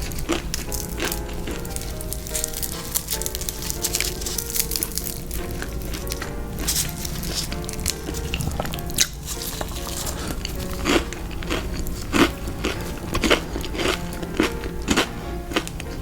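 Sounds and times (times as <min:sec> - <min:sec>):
chewing crunchy fried food: 0:00.0 - 0:16.0
soft background music: 0:00.0 - 0:16.0.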